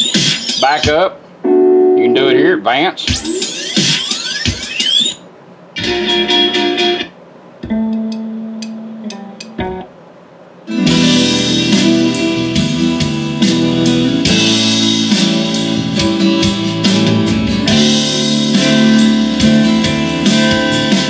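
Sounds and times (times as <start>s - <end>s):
guitar music from radio: 0.0s - 0.9s, 1.5s - 5.2s, 5.8s - 9.9s, 10.7s - 21.0s.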